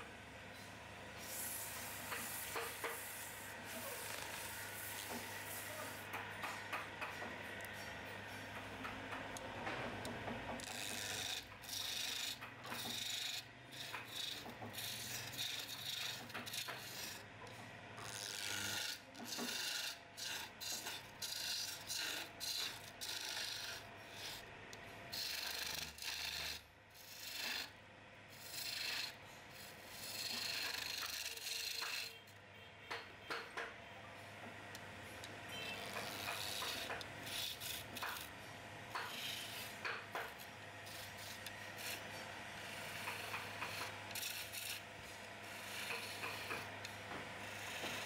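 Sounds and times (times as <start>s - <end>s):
lathe motor hum: 0.9s - 27.7s, 28.4s - 32.2s, 34.3s - 48.0s
chisel scraping spinning wood: 1.2s - 32.3s, 34.8s - 48.0s.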